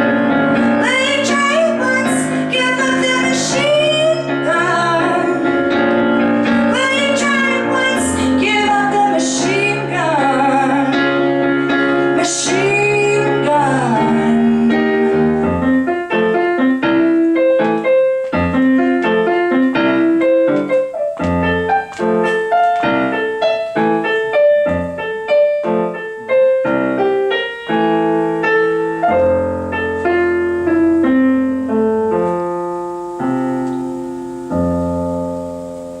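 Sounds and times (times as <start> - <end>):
solo piano playing: 0.0 - 36.0.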